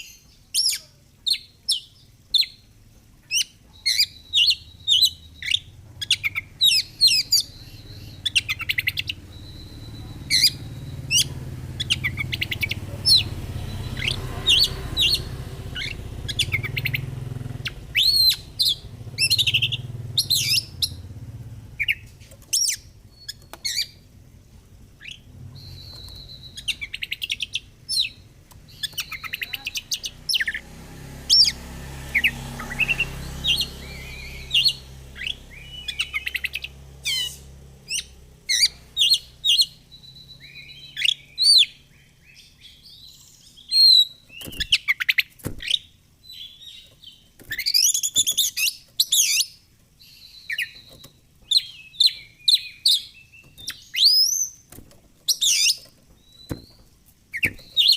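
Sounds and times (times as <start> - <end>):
bird singing whistles and trills: 3.3 - 21.1, 21.7 - 24.0, 25.0 - 30.6, 31.3 - 54.7, 55.3 - 57.9.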